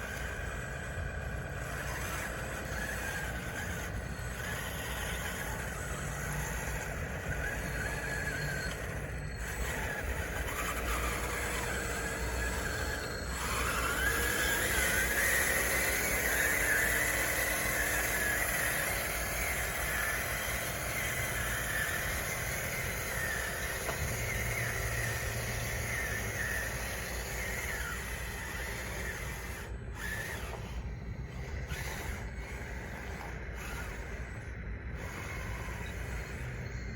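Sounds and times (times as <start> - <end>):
toy bulldozer motors whining: 0.0 - 36.9.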